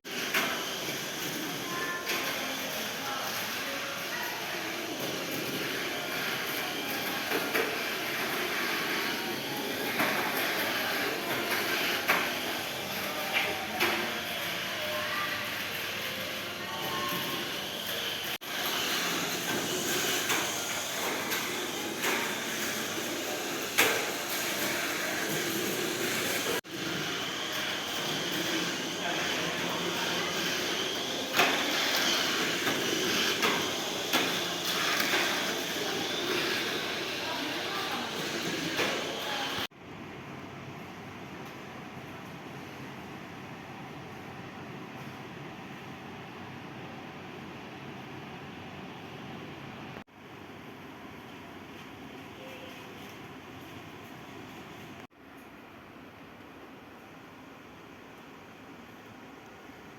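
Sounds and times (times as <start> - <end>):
steady background noise: 0.1 - 59.9.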